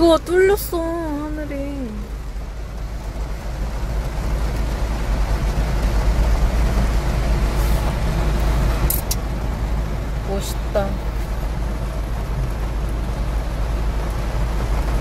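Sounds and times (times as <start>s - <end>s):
car engine low rumble: 0.0s - 15.0s
heavy rain on car roof: 0.0s - 15.0s.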